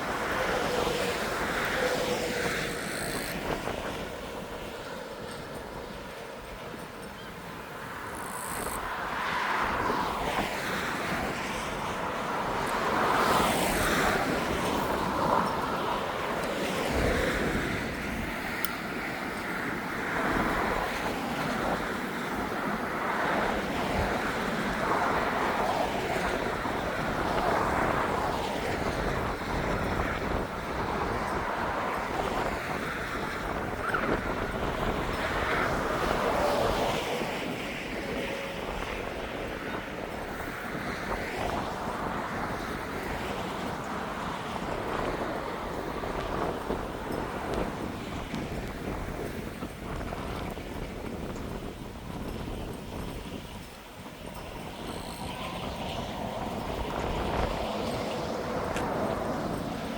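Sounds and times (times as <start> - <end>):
gale-force wind gusting: 0.0 - 59.9
wind buffeting microphone: 0.0 - 59.9.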